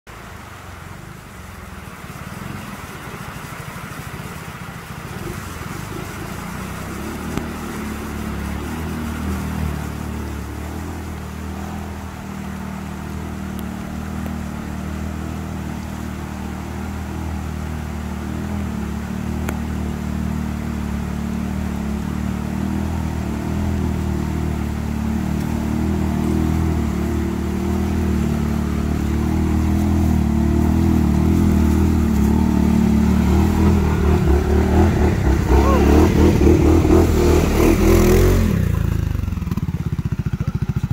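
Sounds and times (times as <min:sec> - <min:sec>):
atv engine running: 0:00.1 - 0:40.9
rushing river water: 0:00.1 - 0:40.9.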